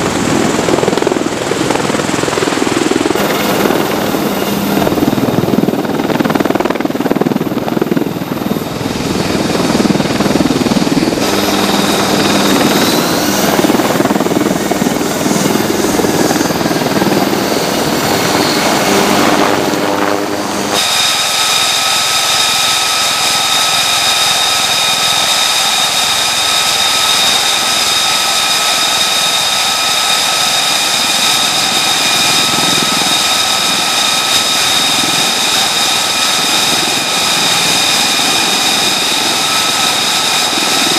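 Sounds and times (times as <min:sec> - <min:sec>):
helicopter rotor and turbine: 0:00.0 - 0:40.9
high-pitched turbine whine: 0:00.0 - 0:40.9.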